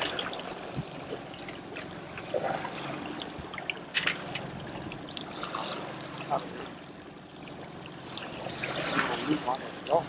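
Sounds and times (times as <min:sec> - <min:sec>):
loud splash and pour: 0:00.0 - 0:06.7, 0:07.4 - 0:09.8
water washing against boat: 0:00.0 - 0:10.0.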